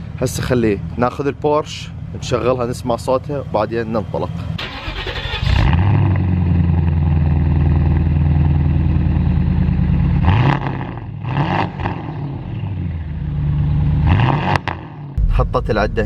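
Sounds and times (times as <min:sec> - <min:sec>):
car engine idling and revving: 0:00.0 - 0:15.3.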